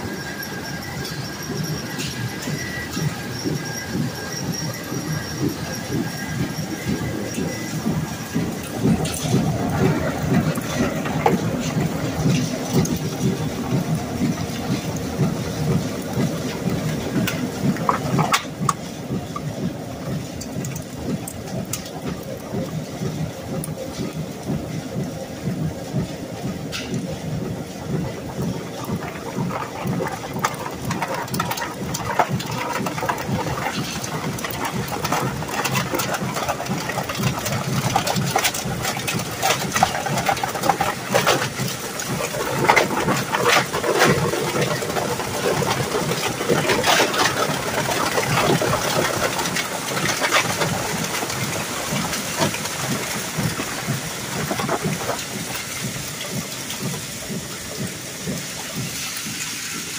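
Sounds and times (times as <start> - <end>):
shredder machine running: 0.0 - 25.6, 27.4 - 59.9.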